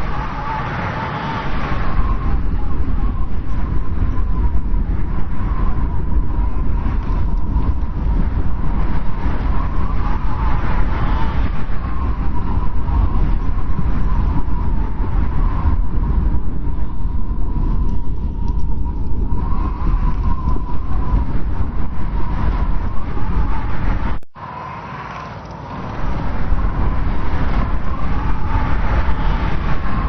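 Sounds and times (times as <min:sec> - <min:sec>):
blizzard wind howling: 0:00.0 - 0:30.0.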